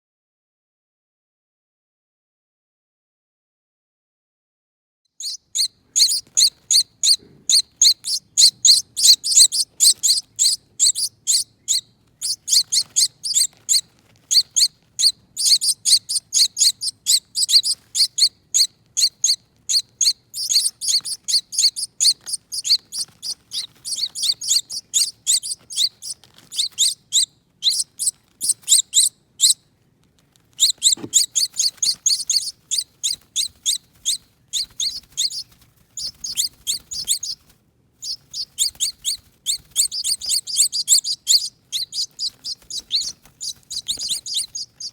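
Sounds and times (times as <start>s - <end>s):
baby finches chirping: 5.2s - 29.6s, 30.5s - 44.9s.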